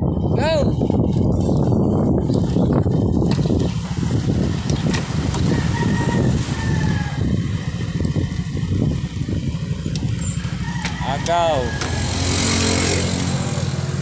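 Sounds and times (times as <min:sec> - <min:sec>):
vehicle engine running: 0:00.0 - 0:14.0
wind rumbling on microphone: 0:00.0 - 0:14.0.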